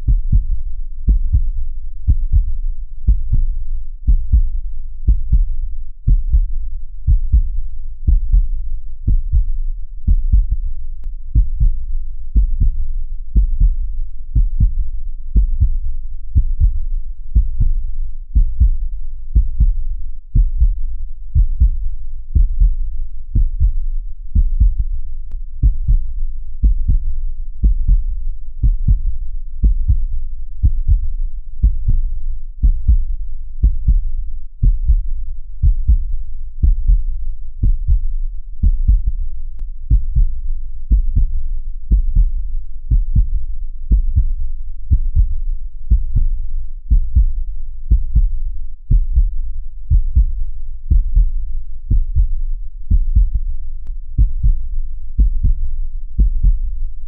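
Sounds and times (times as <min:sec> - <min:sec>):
heartbeat thumping: 0:00.0 - 0:25.0, 0:25.6 - 0:57.0.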